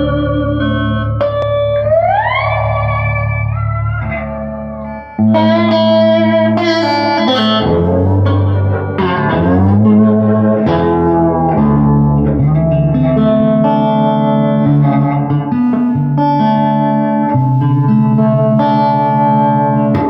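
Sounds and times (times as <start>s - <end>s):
electric guitar through amplifier: 0.0s - 20.0s.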